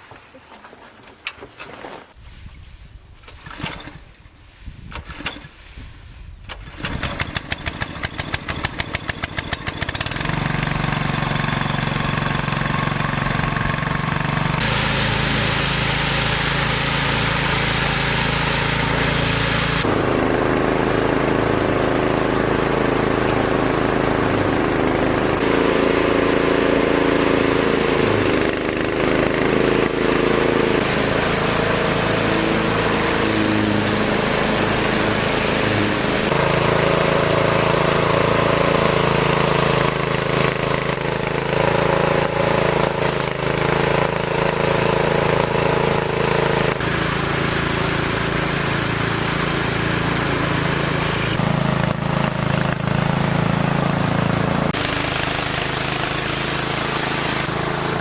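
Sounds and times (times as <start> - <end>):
small engine running: 6.8 - 58.0.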